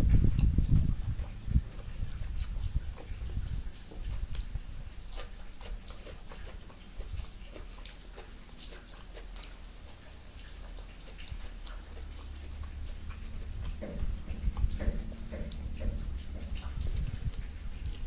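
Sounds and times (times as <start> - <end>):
person chewing food: 0.0 - 18.0
wet mouth clicks and smacks: 0.0 - 18.0.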